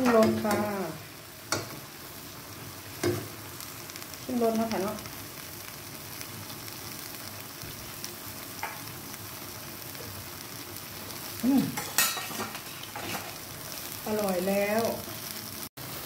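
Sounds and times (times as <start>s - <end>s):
curry simmering in a wok: 0.0s - 16.0s.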